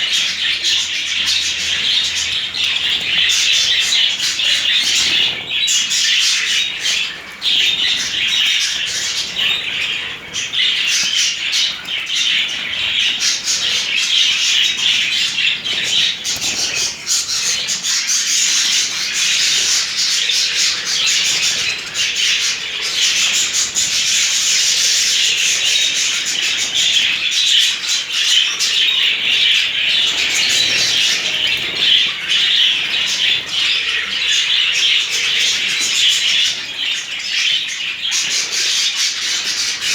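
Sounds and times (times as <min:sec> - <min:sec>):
budgerigars chattering: 0:00.0 - 0:39.9
wings fluttering: 0:00.2 - 0:36.7.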